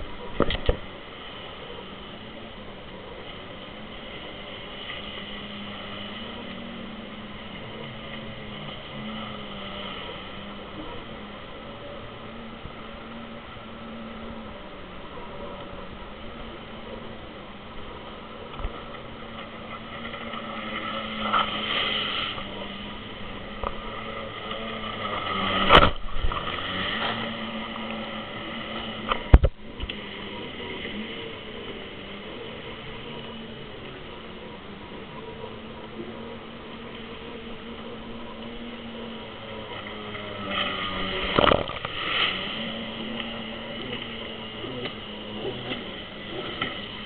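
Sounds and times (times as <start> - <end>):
jet ski engine running: 0.0 - 47.0.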